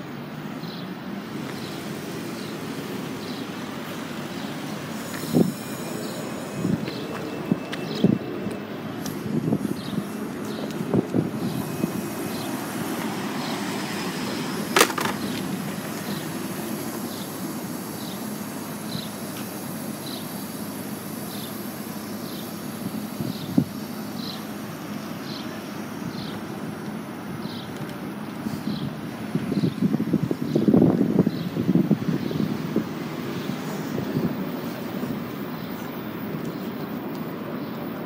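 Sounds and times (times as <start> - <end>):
electric bus driving past: 0.0 - 38.0
street traffic noise: 0.0 - 38.0.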